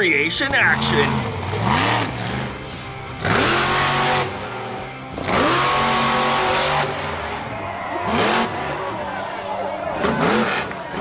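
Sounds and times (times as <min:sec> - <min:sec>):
truck engine revving hard: 0:00.3 - 0:09.1, 0:09.9 - 0:11.0.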